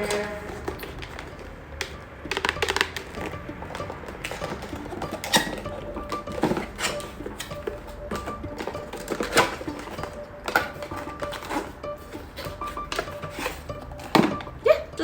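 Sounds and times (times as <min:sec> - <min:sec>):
light background music: 0:00.0 - 0:15.0
packaging clicks and crackles: 0:00.0 - 0:15.0.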